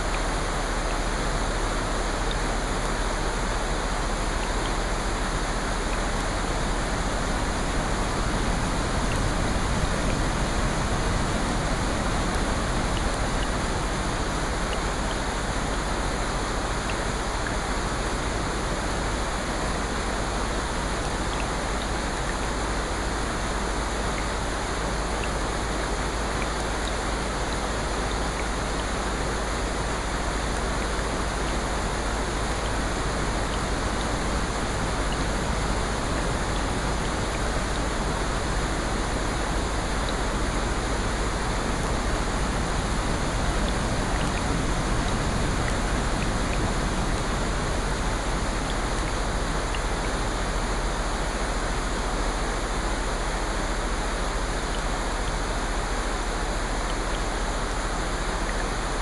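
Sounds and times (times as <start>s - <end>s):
steady rain: 0.0s - 59.0s
ticks of raindrops: 0.0s - 59.0s.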